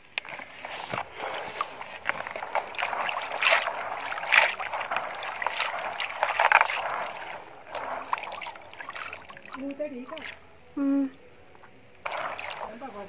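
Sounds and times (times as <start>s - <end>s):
hands rubbing beans in water: 0.0s - 10.4s, 12.0s - 13.0s
water sloshing in basin: 0.0s - 10.4s, 12.0s - 13.0s.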